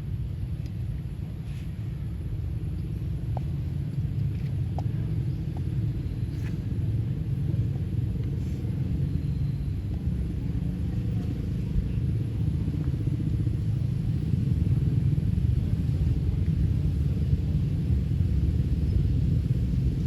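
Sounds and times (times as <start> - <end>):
steady low rumbling: 0.0 - 20.0.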